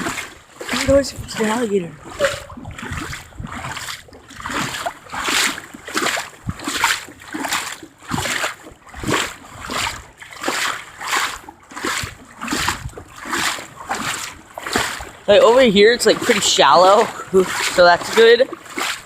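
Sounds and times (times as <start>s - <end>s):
wading steps splashing in water: 0.0s - 19.0s.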